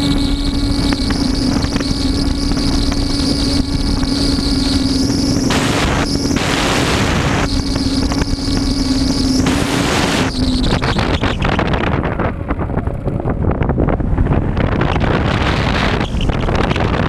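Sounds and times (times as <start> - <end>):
electric motor and propeller whining: 0.0 - 17.0
wind buffeting microphone: 0.0 - 17.0.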